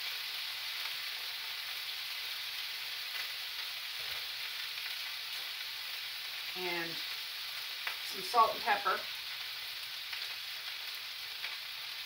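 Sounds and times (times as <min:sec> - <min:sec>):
food sizzling in pans: 0:00.0 - 0:12.0.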